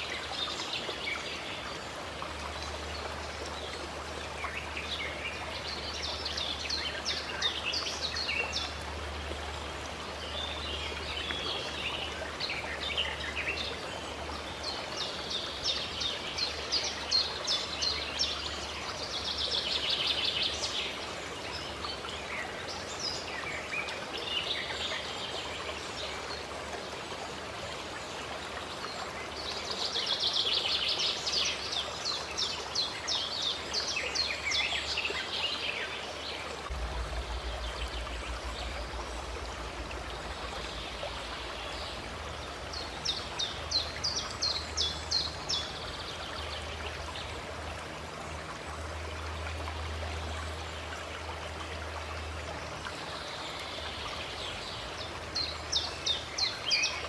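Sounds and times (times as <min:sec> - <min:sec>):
running water: 0:00.0 - 0:57.0
songbirds chirping: 0:00.0 - 0:57.0.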